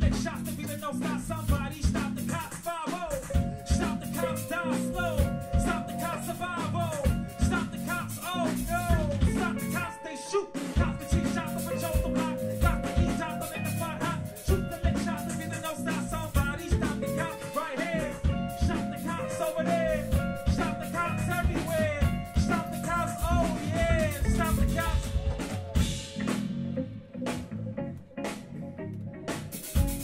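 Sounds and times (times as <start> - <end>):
band music with drum beat: 0.0 - 27.6, 29.3 - 30.0.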